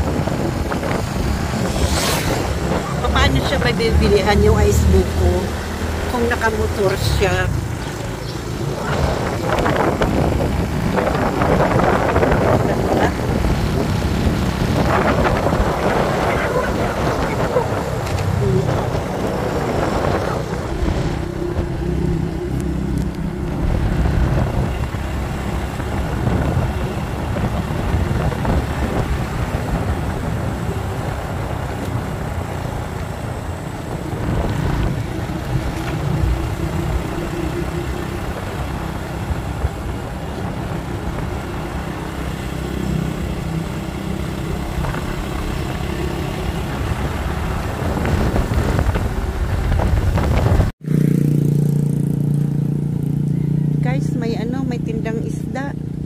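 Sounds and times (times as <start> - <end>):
wind on microphone: 0.0 - 50.8
motorcycle engine running: 0.0 - 56.0.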